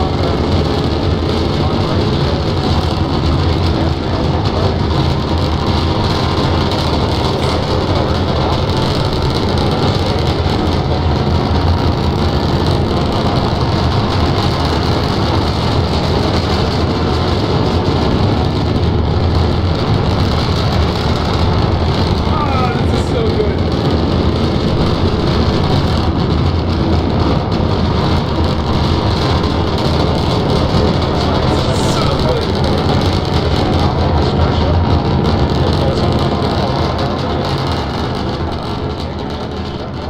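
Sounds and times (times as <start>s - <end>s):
rocket engines rumbling: 0.0s - 40.0s.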